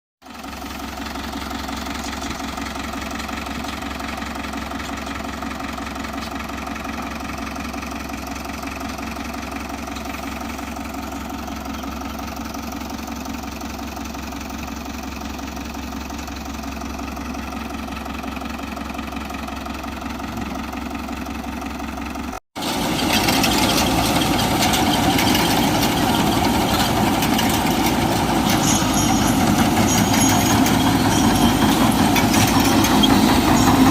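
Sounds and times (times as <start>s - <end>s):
diesel tractor engine idling: 0.2s - 33.9s.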